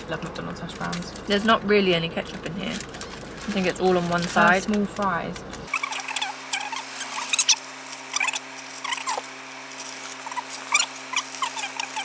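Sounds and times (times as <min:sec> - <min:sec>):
paper wrappers crinkling: 0:00.0 - 0:12.0
steady low hum: 0:00.0 - 0:12.0.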